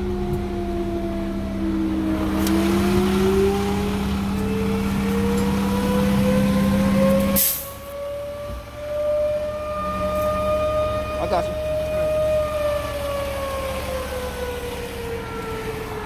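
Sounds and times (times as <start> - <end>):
fire engine siren: 0.0 - 16.0
low truck hum: 0.0 - 16.0.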